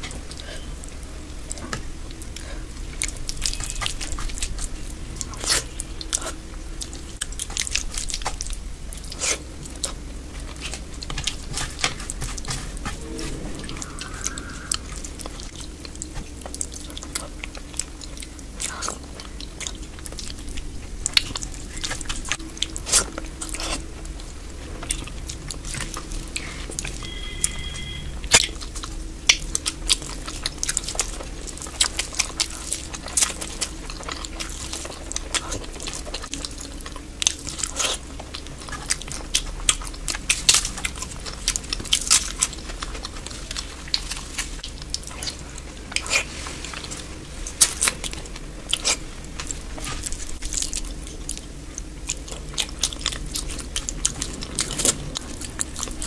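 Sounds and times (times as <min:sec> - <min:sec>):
chewing and mouth smacks: 0:00.0 - 0:56.0
low hum: 0:00.0 - 0:56.0.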